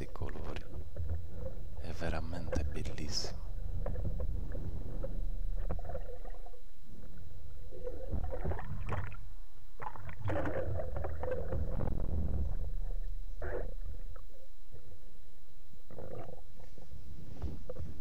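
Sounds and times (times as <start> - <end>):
steady low rumble: 0.0 - 9.8, 10.8 - 18.0
muffled water sloshing: 0.2 - 15.0.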